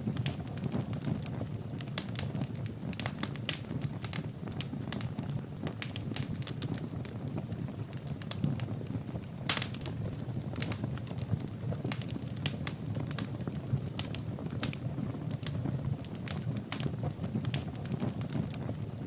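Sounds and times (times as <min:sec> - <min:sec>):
fire crackling and popping: 0:00.0 - 0:19.0
low rumble of flames: 0:00.0 - 0:19.0.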